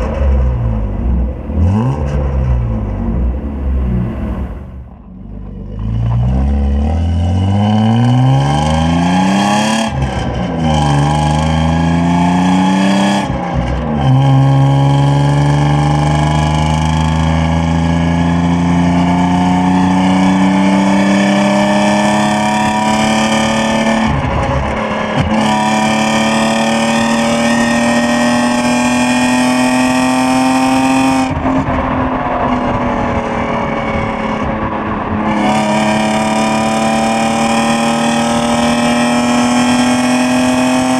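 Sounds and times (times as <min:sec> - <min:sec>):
car engine accelerating through gears: 0:00.0 - 0:40.9.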